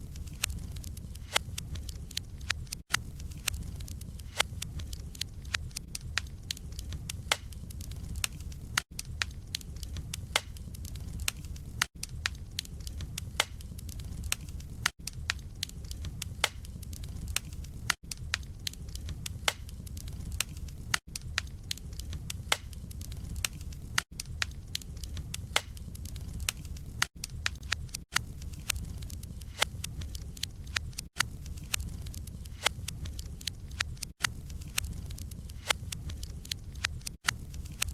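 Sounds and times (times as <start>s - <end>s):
logs crackling and popping: 0.0s - 37.9s
low rumble of flame: 0.0s - 37.9s.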